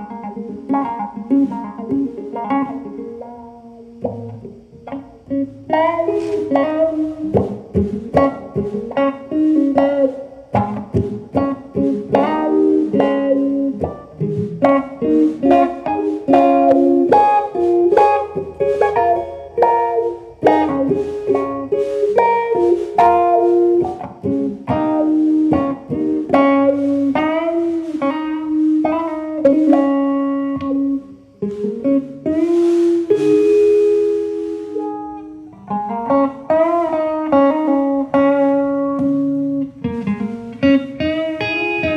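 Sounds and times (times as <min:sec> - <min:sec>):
guitar picking a melody: 0:00.0 - 0:41.9
strummed guitar chord: 0:00.0 - 0:41.9.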